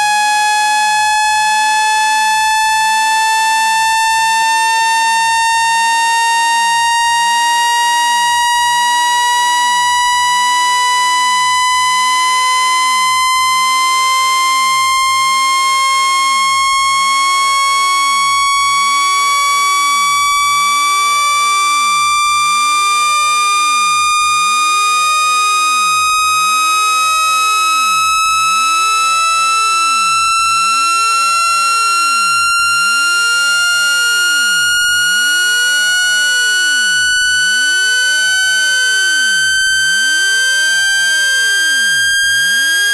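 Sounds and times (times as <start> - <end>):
buzzy tone rising in pitch: 0.2 - 42.9.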